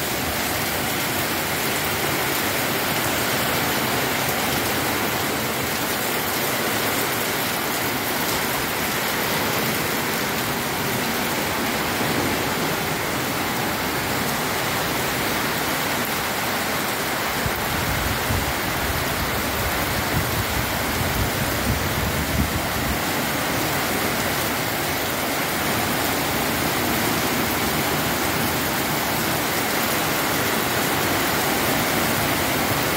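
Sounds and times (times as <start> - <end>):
heavy rain on paving and roofing: 0.0 - 32.9.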